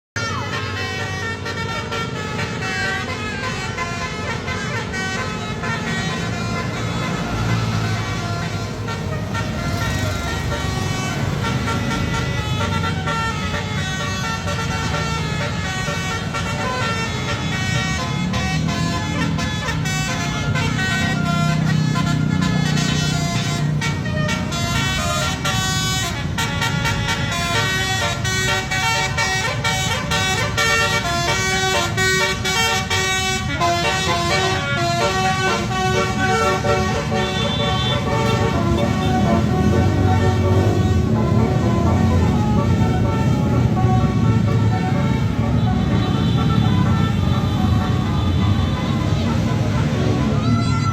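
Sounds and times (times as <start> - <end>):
musical bus horn playing tune: 0.2 - 50.9.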